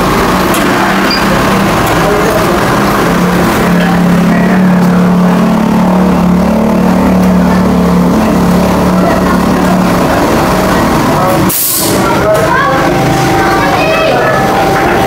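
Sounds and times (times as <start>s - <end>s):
low drone: 0.0s - 15.0s
machine humming: 0.0s - 15.0s.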